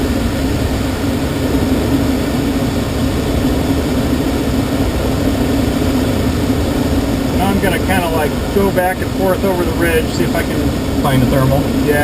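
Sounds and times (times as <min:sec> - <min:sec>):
air rushing around glider cockpit: 0:00.0 - 0:12.0.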